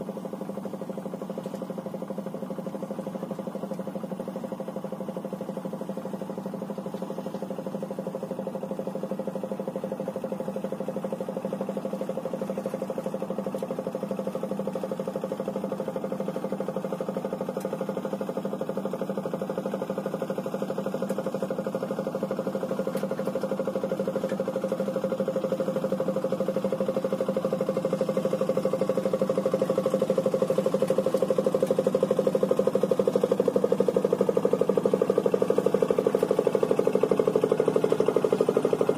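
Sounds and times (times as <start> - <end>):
boat engine chugging: 0.0 - 38.9.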